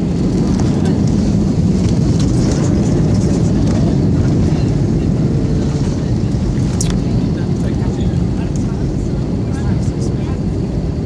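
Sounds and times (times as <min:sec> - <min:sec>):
jet engines and wheels rumbling: 0:00.0 - 0:11.0.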